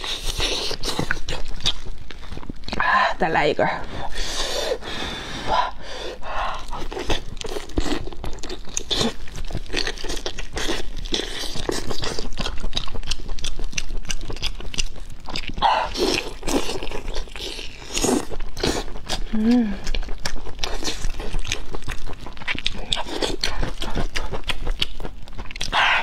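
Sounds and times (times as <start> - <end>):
chewing and biting meat: 0.0 - 3.0, 3.9 - 26.0.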